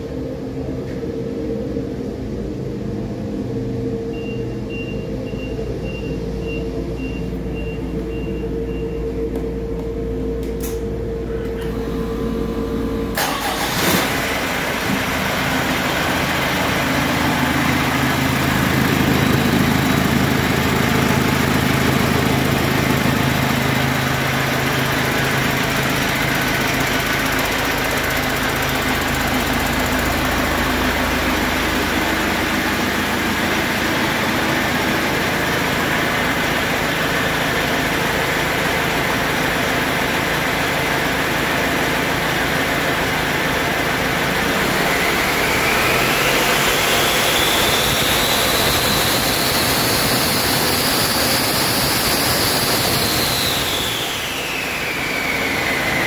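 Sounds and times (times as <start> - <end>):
diesel engine idling and revving: 0.0 - 56.0
high whine of engine: 0.0 - 56.0.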